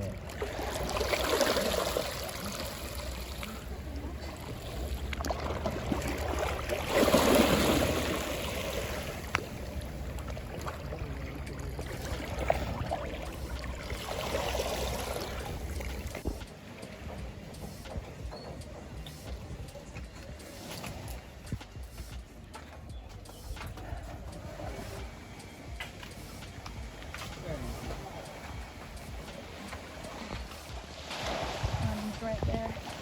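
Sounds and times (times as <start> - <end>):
sea water washing: 0.0 - 22.3, 23.8 - 33.0.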